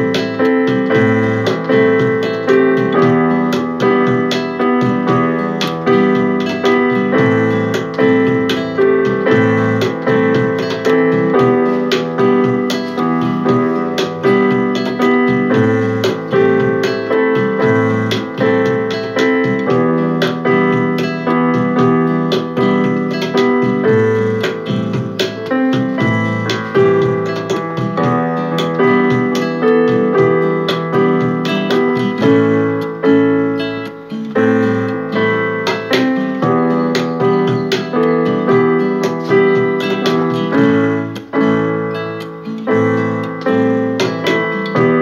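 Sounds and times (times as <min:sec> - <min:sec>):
keyboard piano piece: 0:00.0 - 0:45.0.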